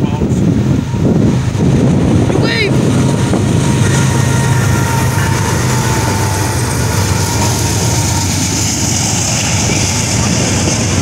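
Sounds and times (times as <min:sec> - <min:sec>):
diesel locomotives passing: 0:00.0 - 0:11.0
train wheels rumbling on rail: 0:00.0 - 0:11.0.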